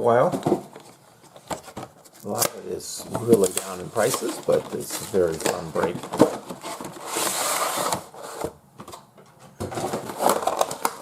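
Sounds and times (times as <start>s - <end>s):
packaging rustling: 0.4s - 8.5s, 9.7s - 11.0s.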